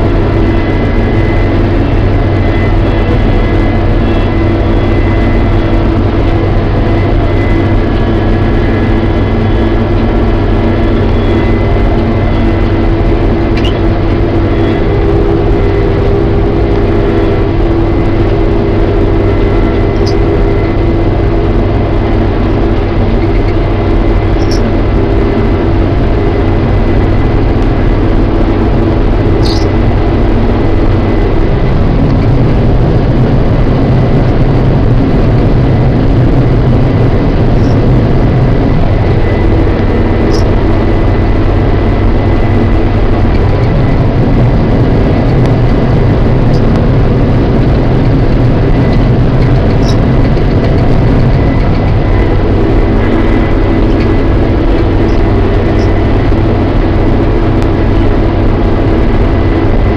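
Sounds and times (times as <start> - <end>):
combine engine and threshing drone: 0.0 - 59.9
thin high whine: 0.0 - 59.9.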